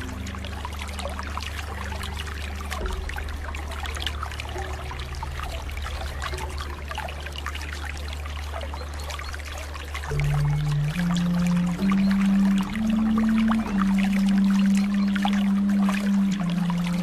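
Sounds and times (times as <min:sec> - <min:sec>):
low drone: 0:00.0 - 0:17.0
running water splashing: 0:00.0 - 0:17.0.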